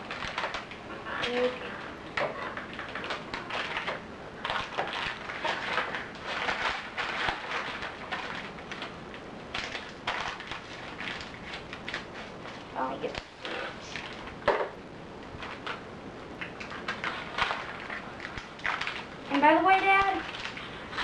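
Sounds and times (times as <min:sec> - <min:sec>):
plastic packaging crinkling: 0:00.0 - 0:21.0.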